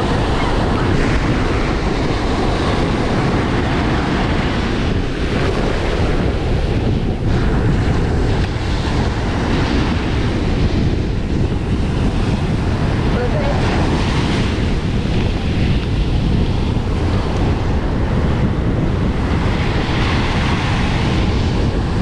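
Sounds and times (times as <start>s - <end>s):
ocean surf washing in: 0.0s - 22.0s
wind buffeting microphone: 0.0s - 22.0s.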